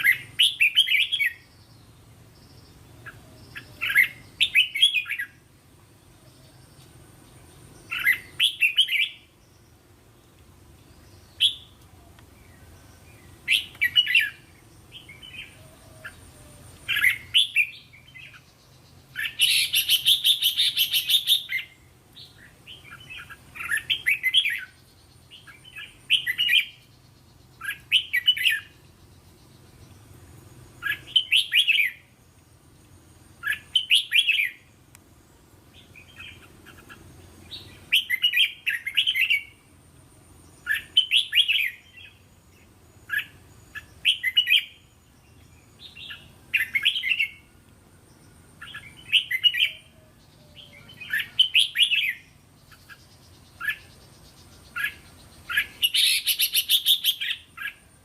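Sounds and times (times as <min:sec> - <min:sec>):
bird singing chirpy phrases: 0:00.0 - 0:58.0.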